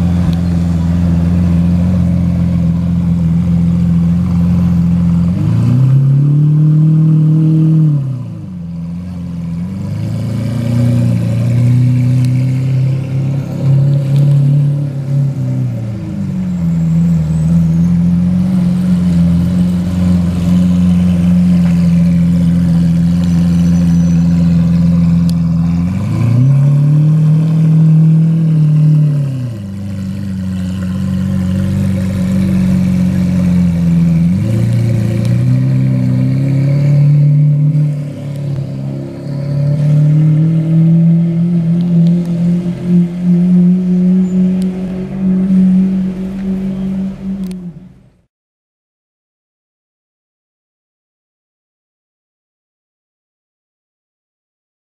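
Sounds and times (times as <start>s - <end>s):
car engine revving at low speed: 0.0s - 48.3s.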